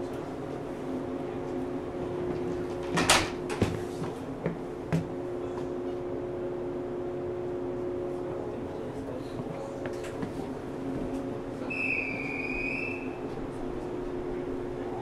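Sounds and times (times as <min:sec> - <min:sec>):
steady equipment hum: 0:00.0 - 0:15.0.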